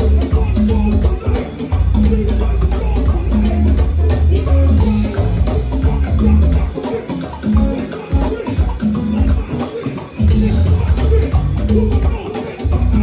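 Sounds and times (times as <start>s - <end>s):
heavy bass line: 0.0s - 13.0s
live band playing a groove: 0.0s - 13.0s.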